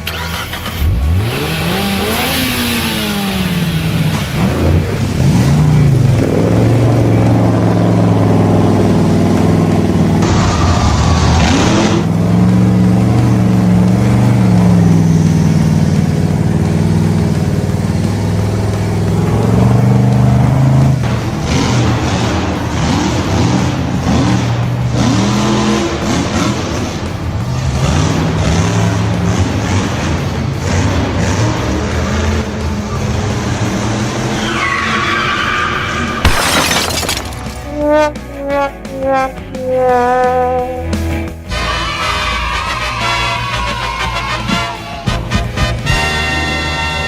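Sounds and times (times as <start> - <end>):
vehicle engine revving: 0.0 - 36.3, 37.5 - 47.0.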